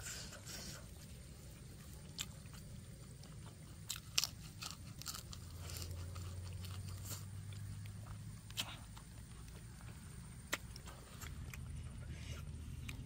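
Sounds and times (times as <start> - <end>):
person chewing crisp lettuce: 0.0 - 13.0.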